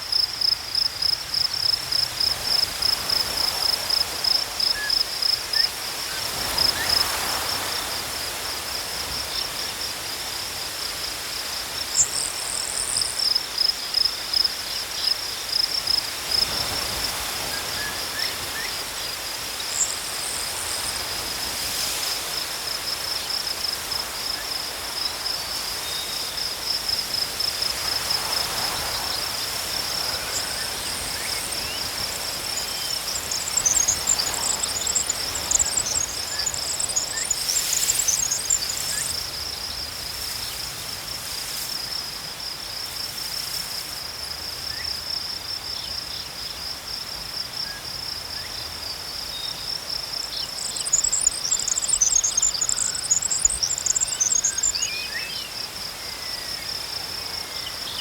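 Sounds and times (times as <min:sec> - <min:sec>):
crickets chirping: 0:00.0 - 0:58.0
higher busier insect chirping: 0:00.0 - 0:58.0.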